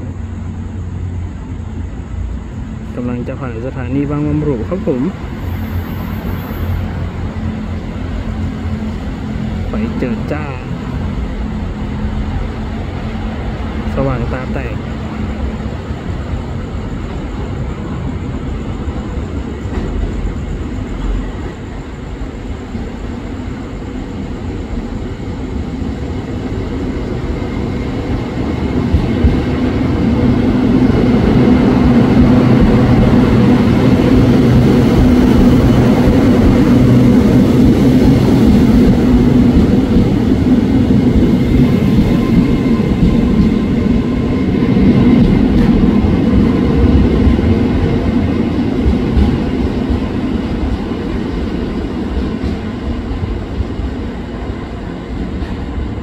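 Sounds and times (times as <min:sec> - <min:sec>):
electric train rumbling past: 0:00.0 - 0:56.0.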